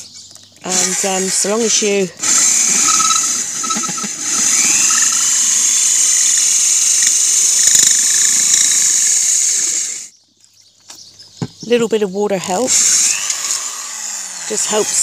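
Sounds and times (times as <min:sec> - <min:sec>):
electric drill grinding into clay: 0:00.6 - 0:10.1, 0:12.4 - 0:15.0.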